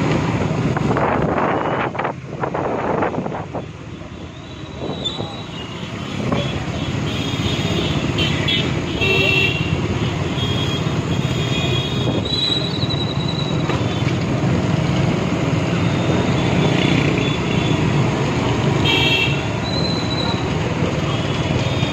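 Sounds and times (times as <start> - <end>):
road traffic: 0.0 - 21.9.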